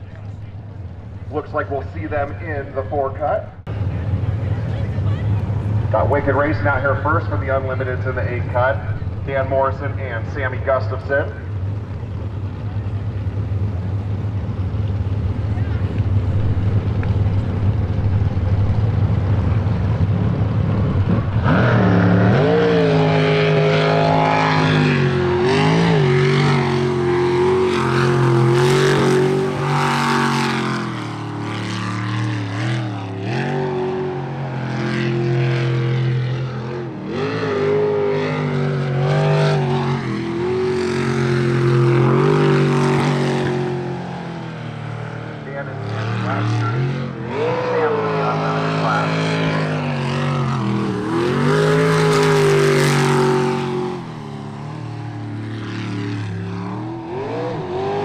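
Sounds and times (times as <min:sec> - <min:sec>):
boat engine revving: 0:00.0 - 0:58.0.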